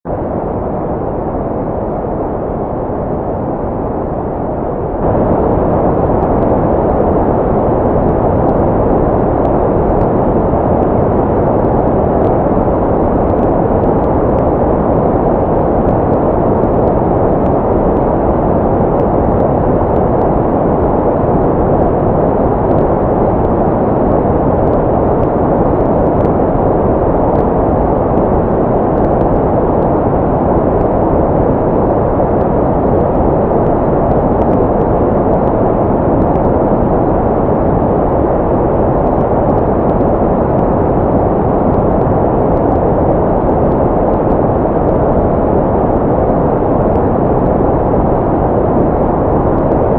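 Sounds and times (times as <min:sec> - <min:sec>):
deep white noise hiss: 0:00.1 - 0:49.9.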